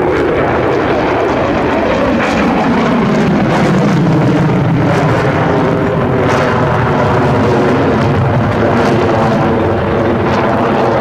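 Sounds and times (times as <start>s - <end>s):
fighter jet engines roaring: 0.0s - 11.0s.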